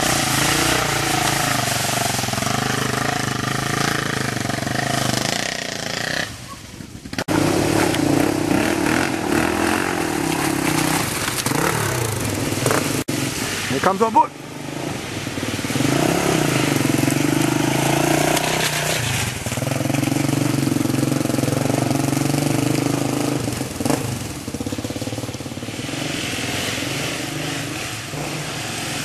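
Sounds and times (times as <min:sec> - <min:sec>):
dirt bike engine revving: 0:00.0 - 0:06.5, 0:07.1 - 0:29.0.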